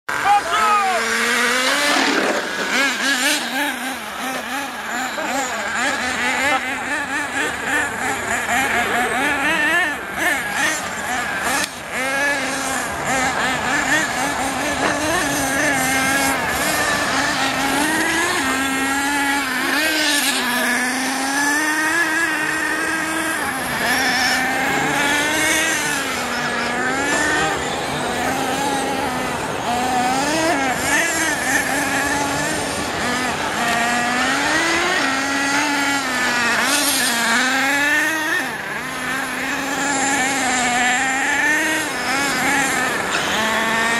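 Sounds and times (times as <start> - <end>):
rc truck motors whining: 0.1 - 43.9.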